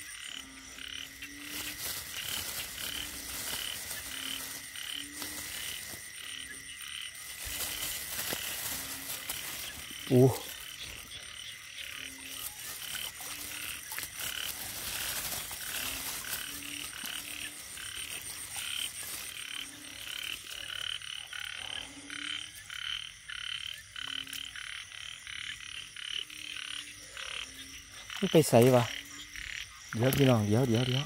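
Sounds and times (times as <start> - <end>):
frogs croaking: 0.0 - 31.0.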